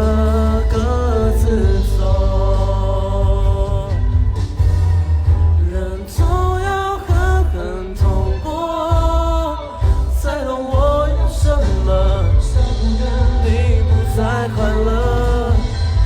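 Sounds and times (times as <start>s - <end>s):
amplified pop music with beat: 0.0s - 16.0s
person singing along: 0.0s - 16.0s.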